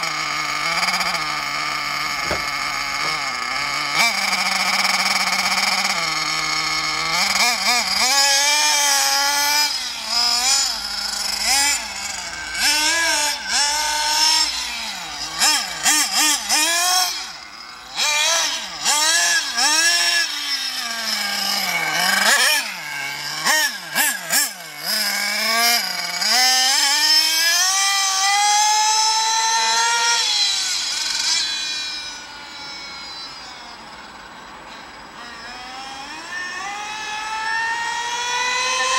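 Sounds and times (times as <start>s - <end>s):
model car nitro engine revving: 0.0s - 38.9s.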